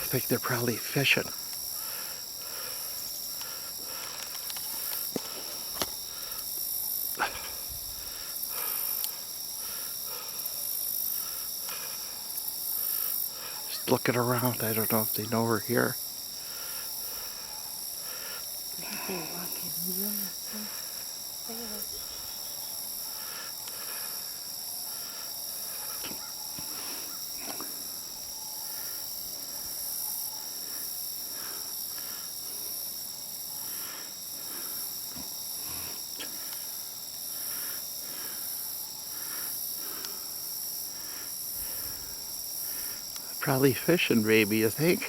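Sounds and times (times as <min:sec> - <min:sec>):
crickets and insects trilling: 0:00.0 - 0:45.0.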